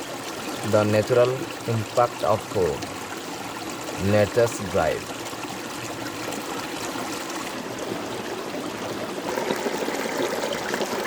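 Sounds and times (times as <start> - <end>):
running water flowing: 0.0 - 11.0.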